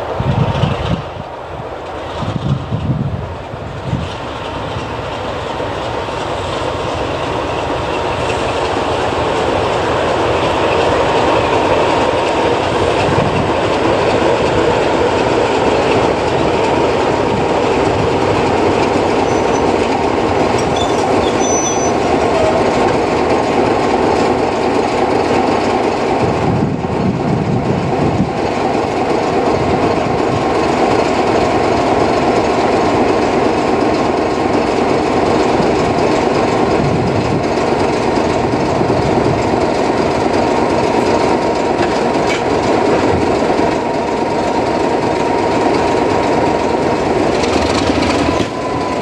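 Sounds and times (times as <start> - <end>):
diesel locomotive engine running: 0.0 - 49.0.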